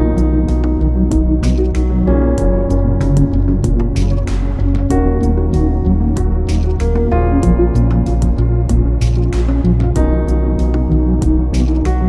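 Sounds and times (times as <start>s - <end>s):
guitar-led instrumental music: 0.0s - 12.0s.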